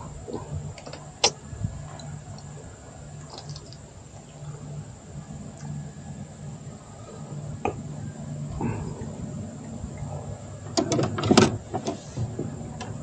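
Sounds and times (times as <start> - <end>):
knocks and rattles in a boat: 0.0 - 6.3, 7.1 - 13.0
low steady hum: 0.0 - 13.0.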